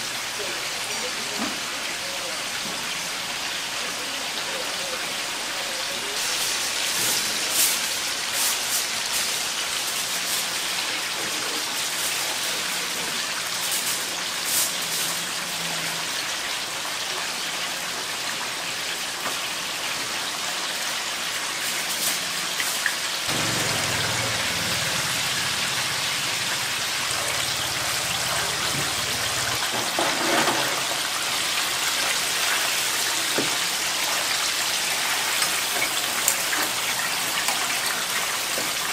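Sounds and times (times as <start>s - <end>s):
deep-frying oil sizzling: 0.0s - 38.9s.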